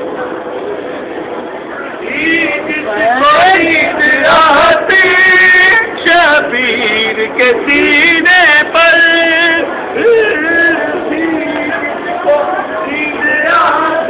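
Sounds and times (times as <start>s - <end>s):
person singing a slow melody: 2.0s - 14.0s.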